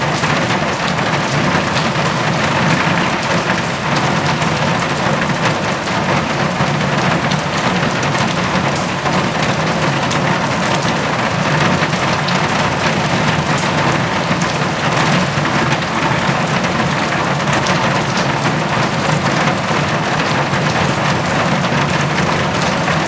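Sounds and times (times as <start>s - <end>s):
heavy rain on a metal roof: 0.0s - 23.0s.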